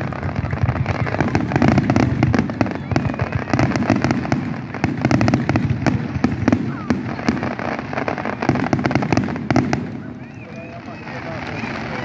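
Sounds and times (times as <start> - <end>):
fireworks cracks and bangs: 0.0 - 12.0.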